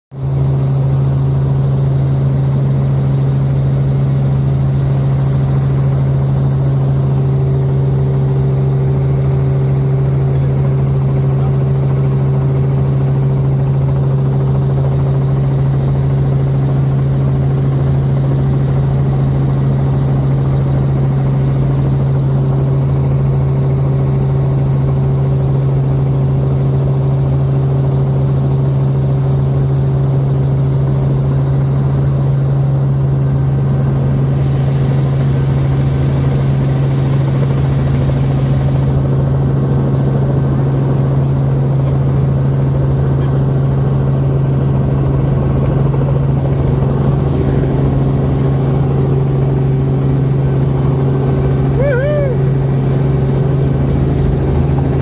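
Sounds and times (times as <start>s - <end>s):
helicopter engine and rotor drone: 0.1s - 55.0s.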